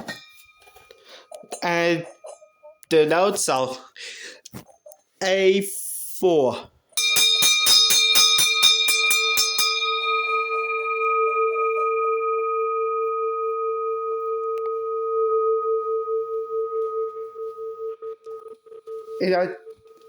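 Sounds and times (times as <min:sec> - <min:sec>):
large bell ringing: 0:00.0 - 0:03.6, 0:07.0 - 0:20.0.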